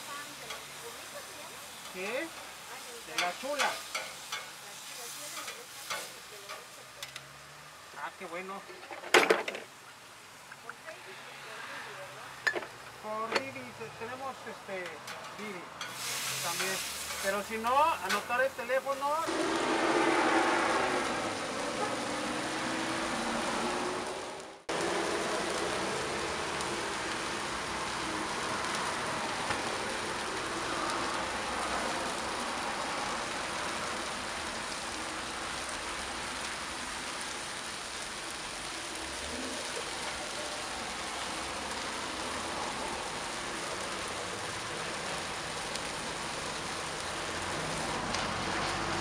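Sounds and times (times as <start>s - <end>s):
meat sizzling on a griddle: 0.0s - 49.0s.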